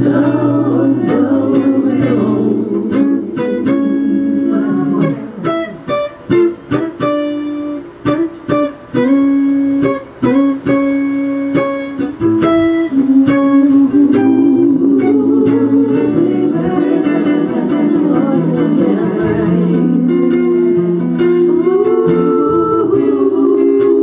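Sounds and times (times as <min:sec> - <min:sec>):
slow plucked guitar melody: 0:00.0 - 0:24.0.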